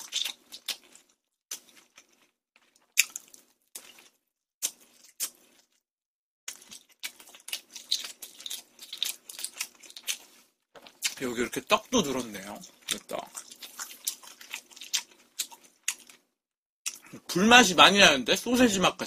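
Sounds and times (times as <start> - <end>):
person chewing crunchy food: 0.0 - 5.8, 6.5 - 17.3.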